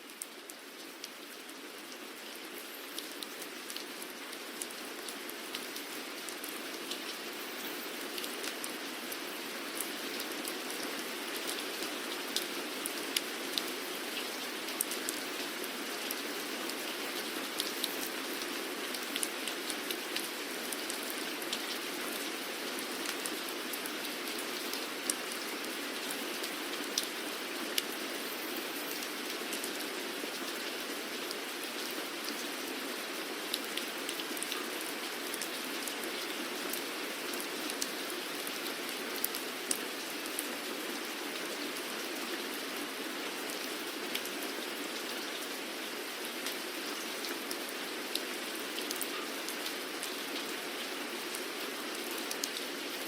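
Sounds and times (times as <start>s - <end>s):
rain on a hard surface: 0.0s - 53.0s.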